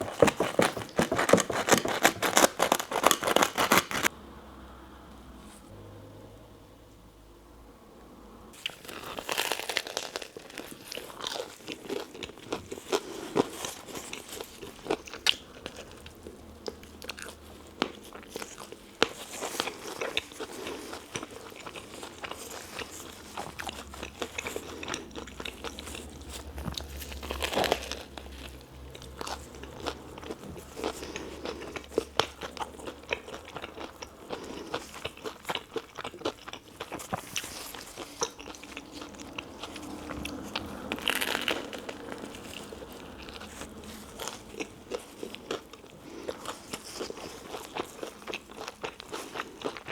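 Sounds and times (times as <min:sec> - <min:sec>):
crunchy sandwich bites: 0:00.0 - 0:04.1, 0:08.6 - 0:49.9
chewing mouth sounds: 0:08.6 - 0:49.9.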